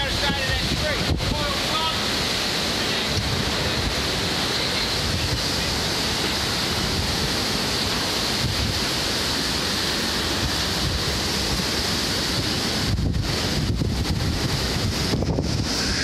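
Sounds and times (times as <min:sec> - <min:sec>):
wind buffeting microphone: 0:00.0 - 0:01.6, 0:03.1 - 0:09.2, 0:10.1 - 0:16.0
strong wind blowing: 0:00.0 - 0:16.0.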